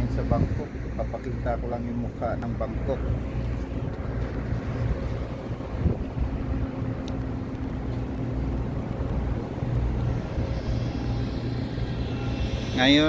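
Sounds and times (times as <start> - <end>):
deck machinery rumble: 0.0 - 13.0
wind buffeting microphone: 0.0 - 13.0.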